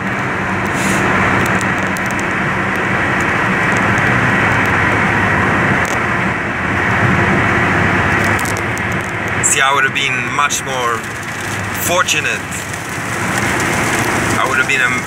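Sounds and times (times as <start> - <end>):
road noise rushing: 0.0 - 15.0
vehicle engine drone: 0.0 - 15.0.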